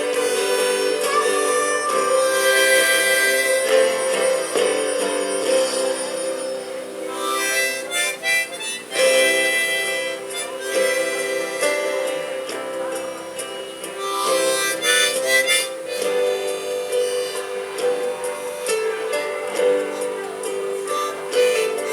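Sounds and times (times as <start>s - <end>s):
button accordion melody: 0.0s - 21.9s.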